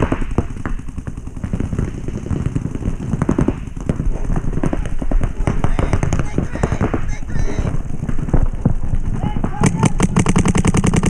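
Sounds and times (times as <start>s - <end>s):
paintball markers popping: 0.0s - 8.8s, 9.5s - 11.0s
steady low rumble: 0.0s - 11.0s.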